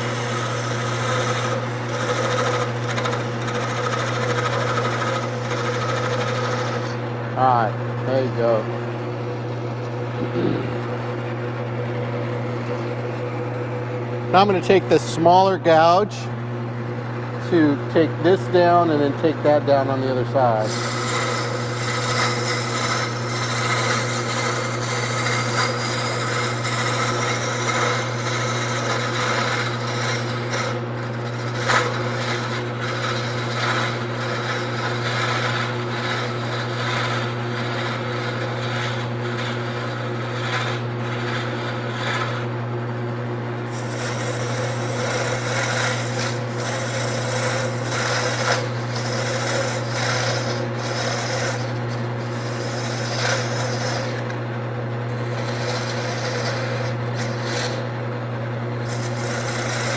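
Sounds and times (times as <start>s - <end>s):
gouge scraping spinning wood: 0.0s - 16.3s, 16.9s - 59.9s
wood lathe motor hum: 0.0s - 59.9s.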